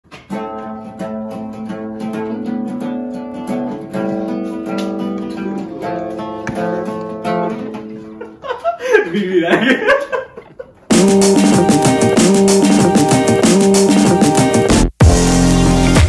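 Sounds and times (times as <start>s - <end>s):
acoustic guitar strumming chords: 0.1s - 8.3s, 10.9s - 16.0s.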